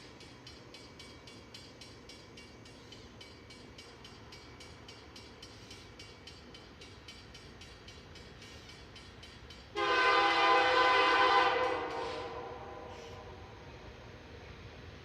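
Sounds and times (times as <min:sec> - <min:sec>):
freight train rumble: 0:00.0 - 0:15.0.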